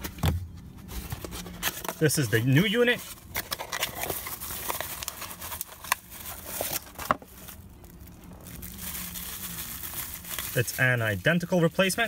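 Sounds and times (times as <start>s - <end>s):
cardboard and bubble wrap crinkling: 0.8s - 12.0s.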